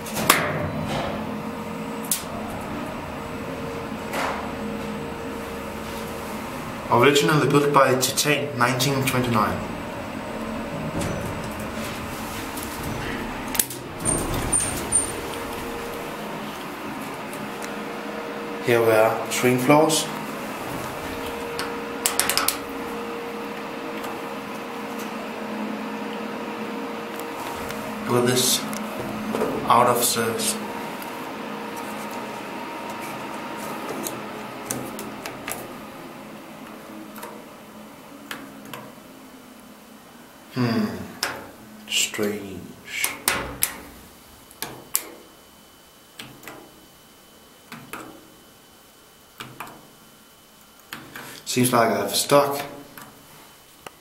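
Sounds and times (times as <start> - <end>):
elevator hum with faint tone: 0.0 - 54.0.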